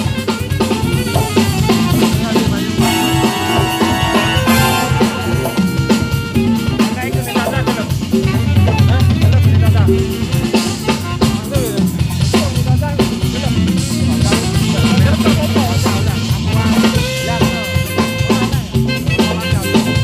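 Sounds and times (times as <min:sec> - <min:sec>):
bass line: 0:00.0 - 0:20.0
congas: 0:00.0 - 0:20.0
drum kit: 0:00.0 - 0:20.0
jazz band playing: 0:00.0 - 0:20.0.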